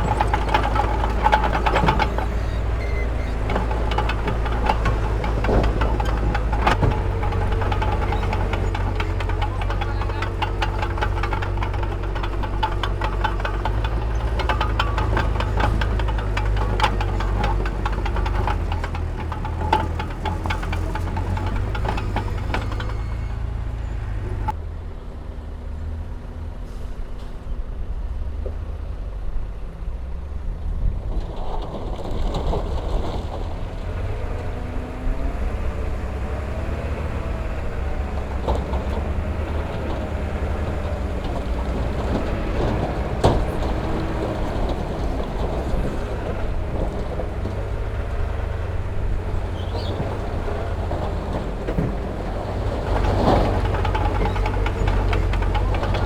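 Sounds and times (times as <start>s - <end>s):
heavy diesel engines rumbling: 0.0s - 56.0s.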